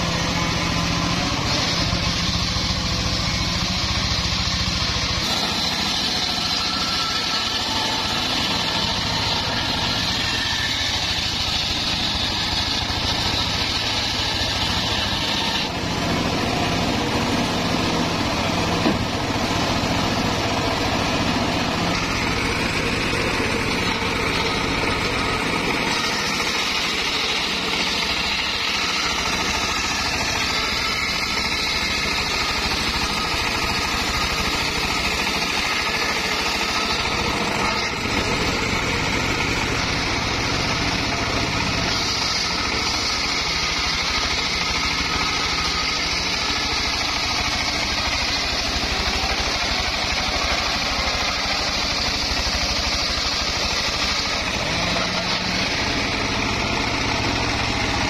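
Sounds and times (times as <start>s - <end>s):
saw blade cutting wood: 0.0s - 58.0s
saw motor drone: 0.0s - 58.0s.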